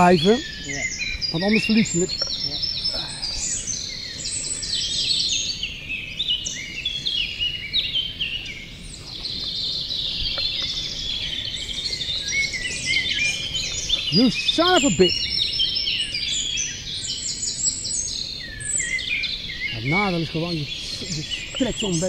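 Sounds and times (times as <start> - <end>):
low background noise: 0.0 - 22.0
small birds chirping: 0.0 - 22.0.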